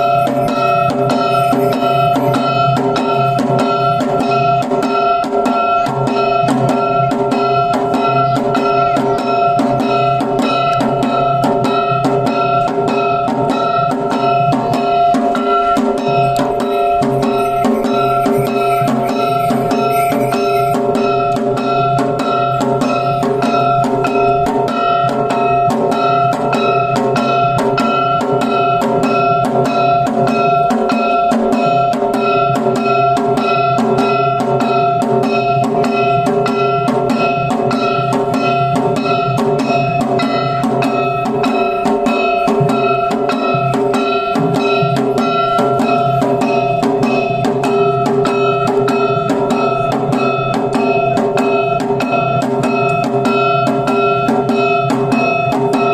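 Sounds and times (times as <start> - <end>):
drums beaten fast: 0.0 - 55.9
steady ringing tone: 0.0 - 55.9.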